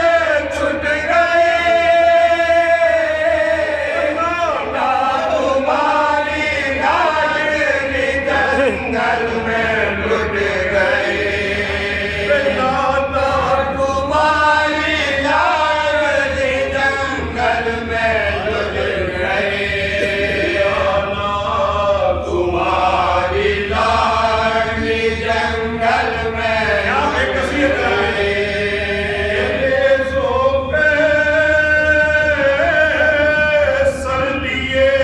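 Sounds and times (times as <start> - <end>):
men chanting unaccompanied: 0.0 - 35.0.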